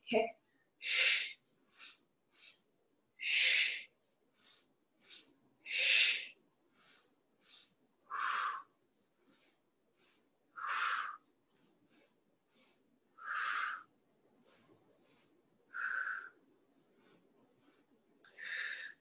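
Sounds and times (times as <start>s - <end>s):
short hissing breaths: 0.8s - 11.2s, 11.9s - 16.4s, 17.0s - 19.0s.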